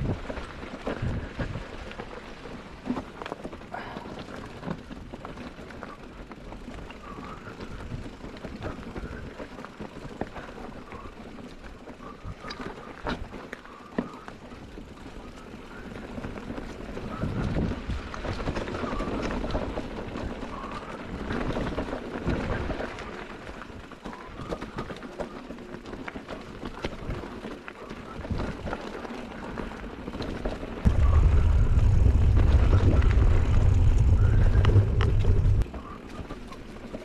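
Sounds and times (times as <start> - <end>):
bike rattling and knocking: 0.0 - 37.0
bike tyres on stones and dirt: 0.0 - 37.0.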